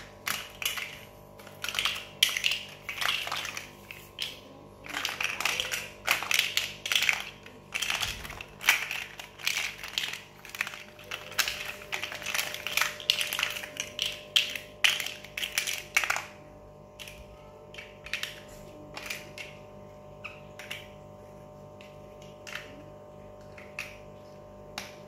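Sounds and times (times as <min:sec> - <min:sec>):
plastic toy bricks clicking: 0:00.0 - 0:16.4, 0:17.0 - 0:19.6, 0:20.2 - 0:21.0, 0:21.8 - 0:22.8.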